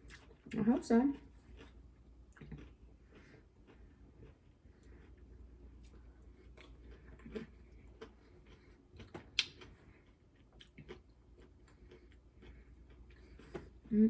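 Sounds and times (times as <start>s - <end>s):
chewing: 0.0s - 13.9s.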